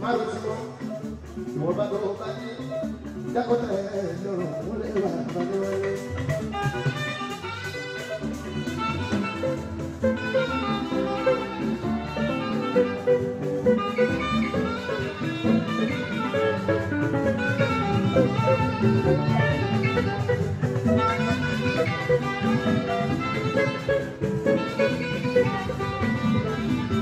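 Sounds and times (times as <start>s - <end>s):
electric guitar: 0.0s - 27.0s
saxophones playing melody: 4.2s - 27.0s.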